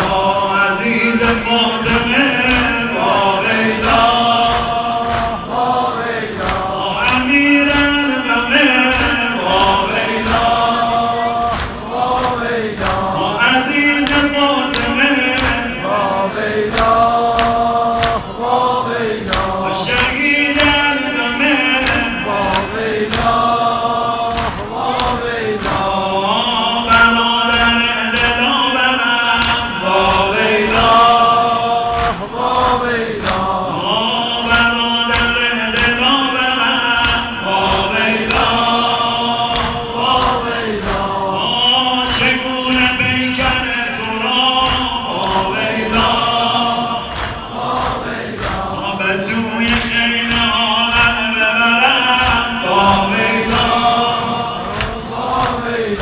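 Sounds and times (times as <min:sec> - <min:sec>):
crowd of men chanting: 0:00.0 - 0:56.0
man singing a lament over loudspeakers: 0:00.0 - 0:56.0.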